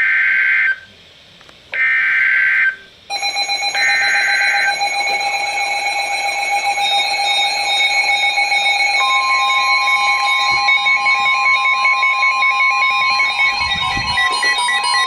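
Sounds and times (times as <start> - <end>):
electronic alarm tone: 1.8 - 15.0
higher alarm tone: 1.8 - 15.0.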